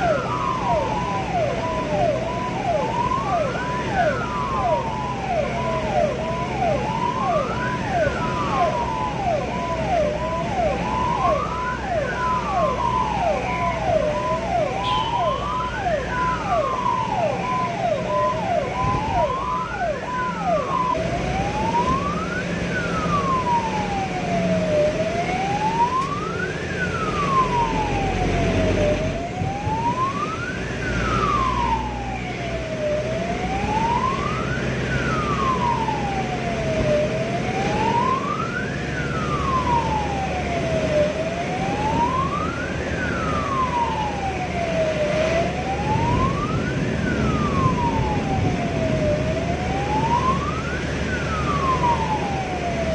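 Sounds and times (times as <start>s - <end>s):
ambulance siren: 0.0s - 52.9s
engine and road noise: 0.0s - 52.9s.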